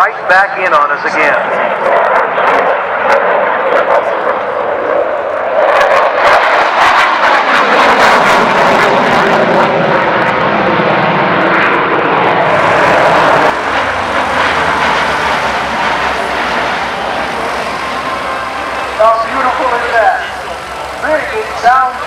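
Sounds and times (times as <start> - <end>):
aircraft engine roar: 0.0 - 22.0.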